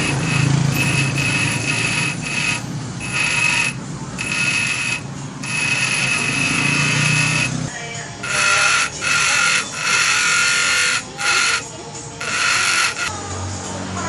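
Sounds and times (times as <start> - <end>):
grinder grinding stone: 0.0 - 13.2
grinder motor hum: 0.0 - 13.2.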